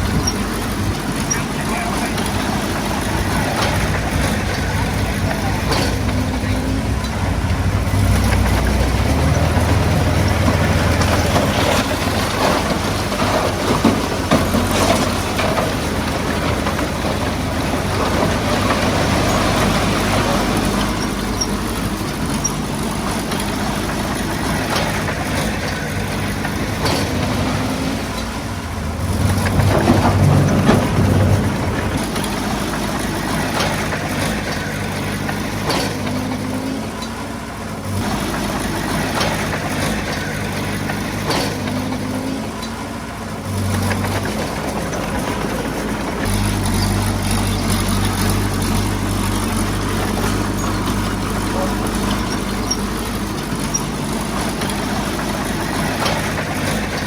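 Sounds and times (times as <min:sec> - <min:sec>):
heavy diesel engine working: 0:00.0 - 0:57.0.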